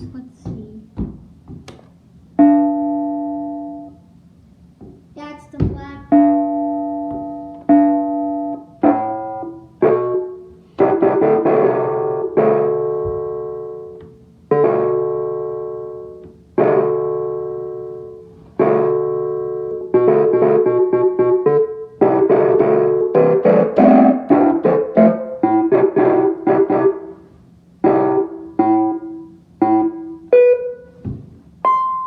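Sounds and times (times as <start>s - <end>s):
piano playing: 2.3s - 4.4s, 5.7s - 32.0s.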